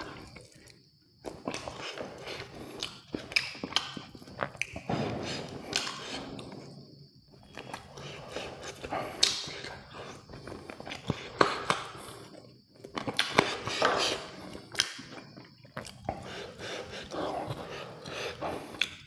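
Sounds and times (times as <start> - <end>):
crunching and chewing fried chicken: 0.0 - 19.0.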